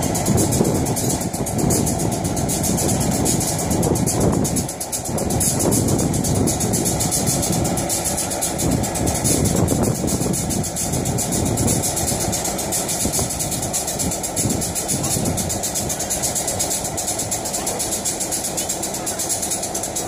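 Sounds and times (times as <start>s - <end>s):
diesel locomotive idling: 0.0s - 20.0s.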